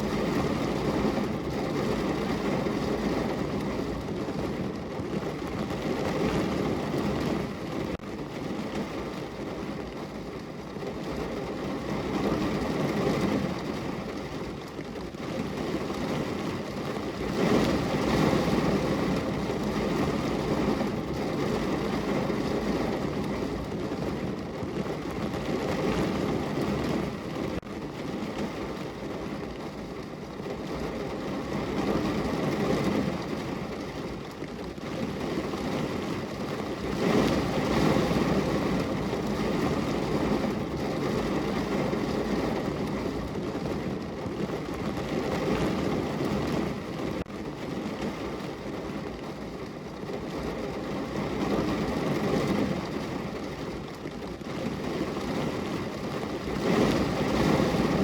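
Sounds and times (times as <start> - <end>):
heavy rain drumming on car roof: 0.0 - 58.0.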